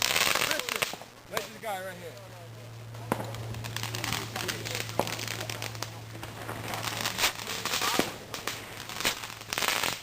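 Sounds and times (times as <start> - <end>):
firecracker cracks: 0.0 - 10.0
fireworks crackling: 0.0 - 10.0.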